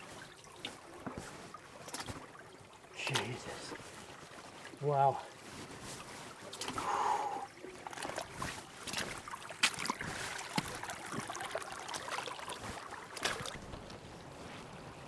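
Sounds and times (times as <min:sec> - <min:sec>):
knocks and splashes in shallow water: 0:00.0 - 0:15.0
trickling water: 0:00.0 - 0:15.0.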